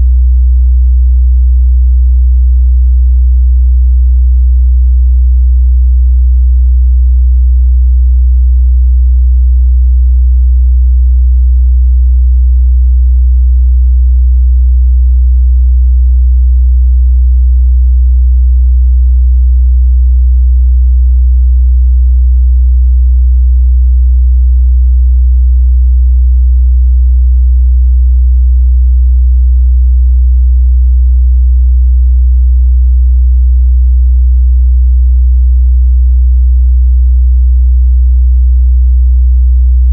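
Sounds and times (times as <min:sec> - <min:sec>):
low sine-wave test tone: 0:00.0 - 0:32.4, 0:33.0 - 0:34.2, 0:34.9 - 0:35.4, 0:39.6 - 0:39.9.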